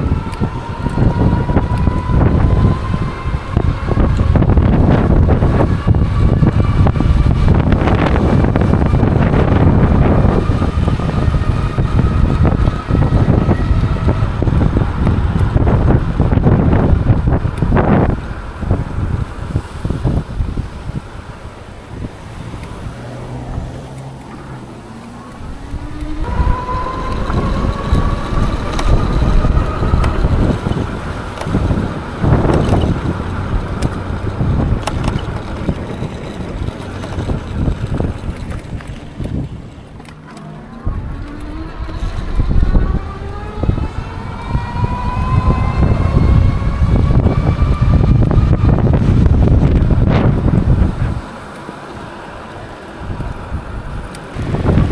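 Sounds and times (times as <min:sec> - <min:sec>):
electric motor whine: 0:00.0 - 0:21.4, 0:22.0 - 0:54.9
wind buffeting microphone: 0:00.0 - 0:54.9.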